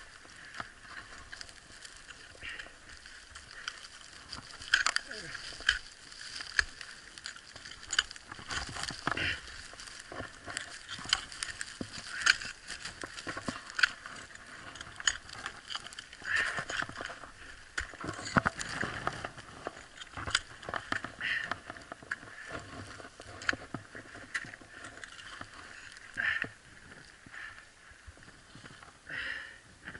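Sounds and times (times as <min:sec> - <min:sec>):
ice axes striking frozen snow: 0:00.0 - 0:27.2
clothing rustle: 0:00.0 - 0:28.9
crunching footsteps: 0:00.0 - 0:29.9.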